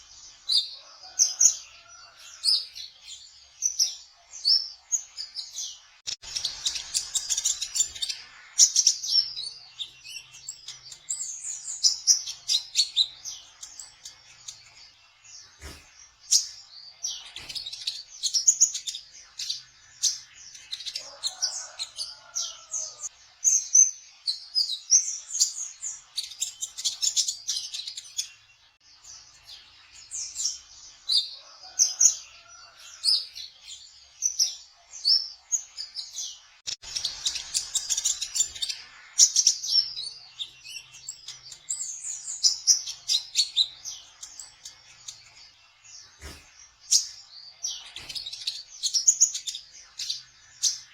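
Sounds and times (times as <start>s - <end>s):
sunbird chirping and trilling: 0.0s - 50.9s.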